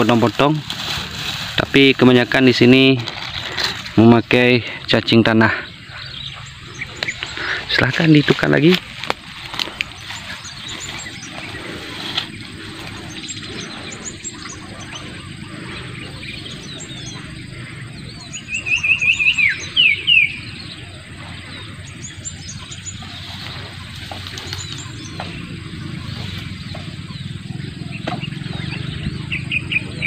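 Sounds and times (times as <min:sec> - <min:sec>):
bird singing fast run of notes: 0:00.0 - 0:30.0
birdsong chirps: 0:00.0 - 0:30.0
steady outdoor hiss: 0:00.0 - 0:30.0.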